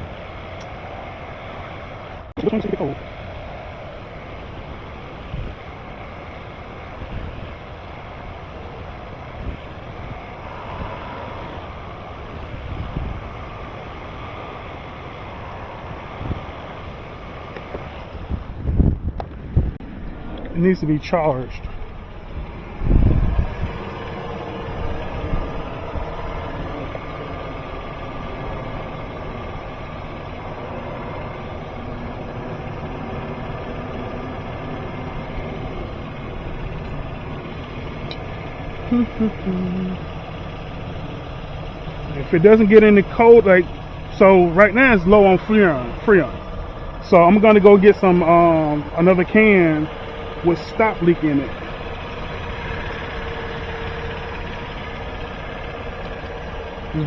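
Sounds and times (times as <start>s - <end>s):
car air conditioning blowing: 0.0s - 57.0s.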